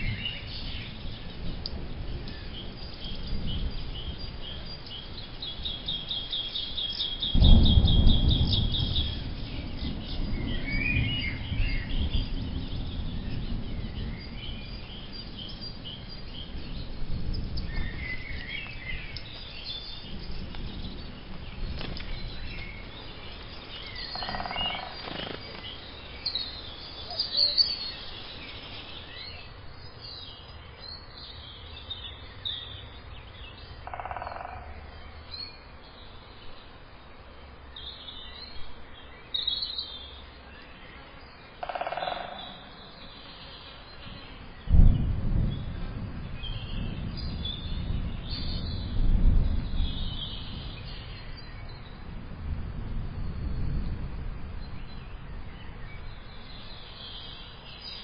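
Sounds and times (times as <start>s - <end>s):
small birds chirping: 0.0s - 52.1s.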